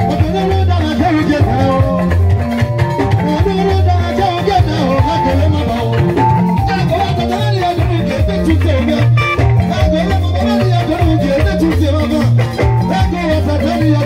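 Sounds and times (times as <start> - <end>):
live band playing dance music: 0.0 - 14.0.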